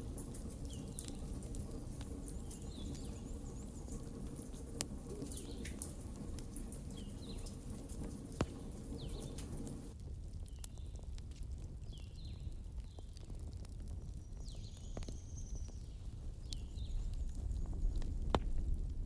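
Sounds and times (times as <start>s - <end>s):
small birds chirping: 0.0s - 11.0s, 11.8s - 13.2s, 14.0s - 18.2s
fire popping sharply: 0.0s - 19.0s
wood fire crackling: 0.0s - 19.0s.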